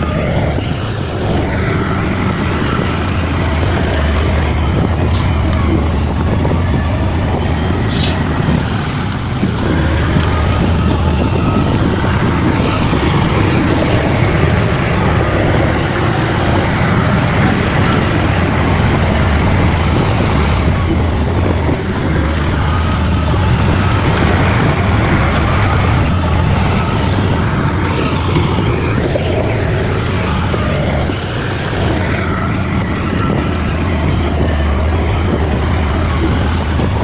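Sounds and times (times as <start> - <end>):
bulldozer diesel engine droning: 0.0 - 37.0.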